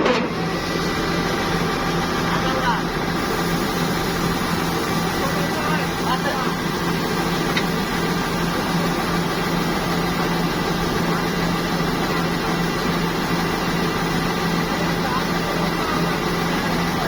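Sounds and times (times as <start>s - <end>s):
farm machinery engine running: 0.0s - 17.0s.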